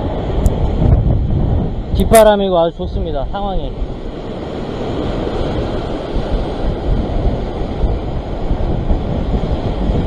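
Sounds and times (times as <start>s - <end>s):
sea surf breaking over rocks: 0.0s - 10.0s
wind on microphone: 0.0s - 10.0s.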